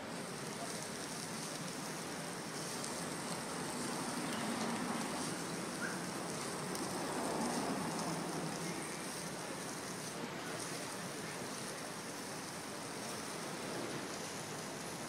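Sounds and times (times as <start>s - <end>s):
hot stones sizzling and hissing: 0.0s - 15.0s.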